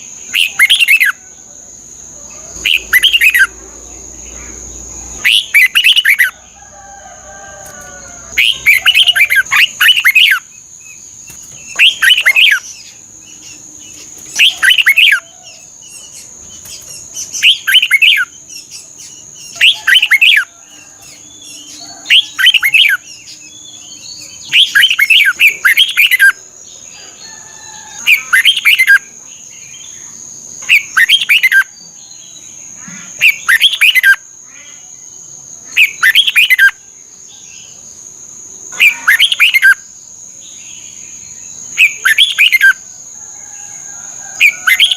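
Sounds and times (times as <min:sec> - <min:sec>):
bird singing warbling phrases: 0:00.0 - 0:01.3, 0:02.0 - 0:06.4, 0:08.2 - 0:27.3, 0:27.9 - 0:37.9, 0:38.7 - 0:42.9, 0:44.4 - 0:44.9.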